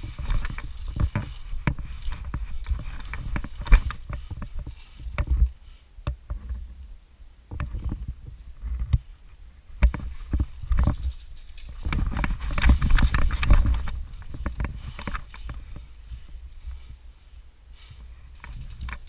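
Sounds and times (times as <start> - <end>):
microphone handling noise: 0.0 - 6.8, 7.5 - 17.0
wind rumble on microphone: 0.0 - 19.0.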